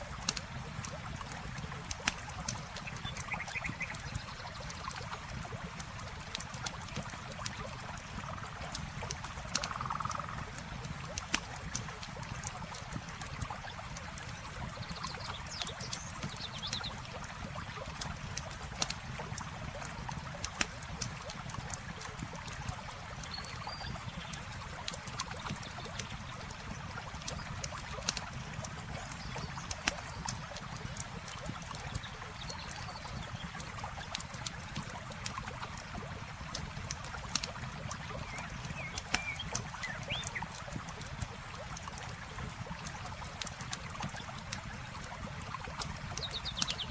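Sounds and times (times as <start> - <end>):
campfire crackling and popping: 0.0 - 46.9
flowing water: 0.0 - 46.9.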